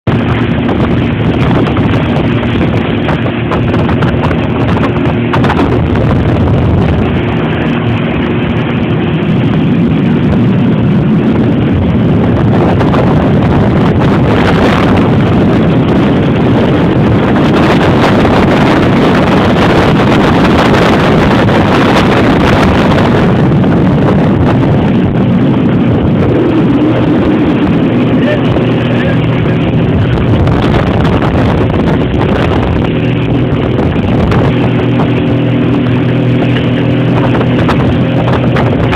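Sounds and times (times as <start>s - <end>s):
motorboat engine running: 0.0s - 38.9s
wind buffeting microphone: 0.0s - 38.9s.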